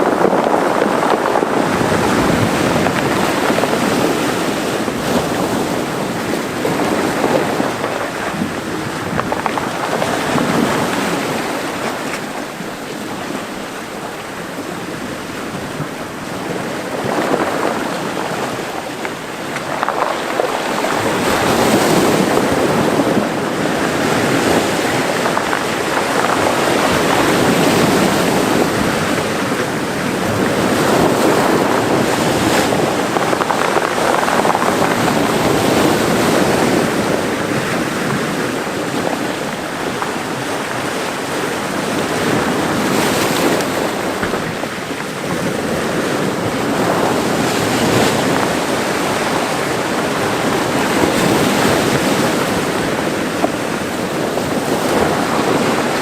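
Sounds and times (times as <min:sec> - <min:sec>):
waves washing onto rocks: 0:00.0 - 0:56.0
wind on microphone: 0:00.0 - 0:56.0.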